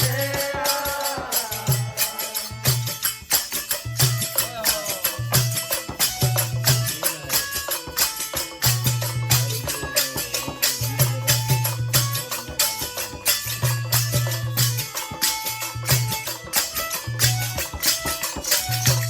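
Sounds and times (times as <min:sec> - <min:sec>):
fast percussion beat: 0:00.0 - 0:19.0
instrumental melody: 0:00.0 - 0:19.0.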